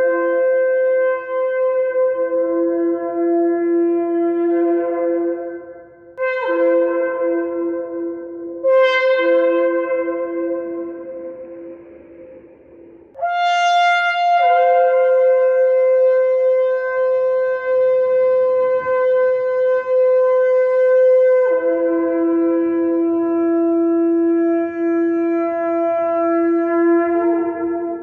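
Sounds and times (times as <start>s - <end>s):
shofar blast: 0.0s - 11.8s, 13.2s - 28.0s.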